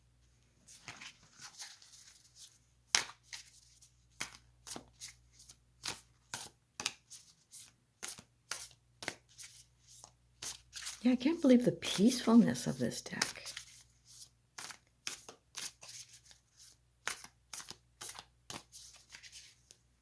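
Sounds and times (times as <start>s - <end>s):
cards being shuffled: 0.7s - 12.2s, 13.2s - 19.8s.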